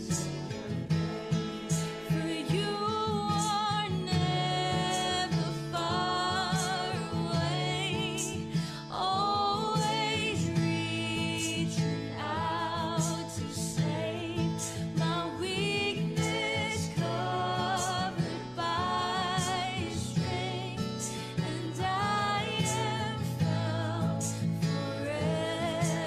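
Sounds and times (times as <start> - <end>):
guitar accompaniment: 0.0 - 26.0
person singing with vibrato: 0.0 - 26.0.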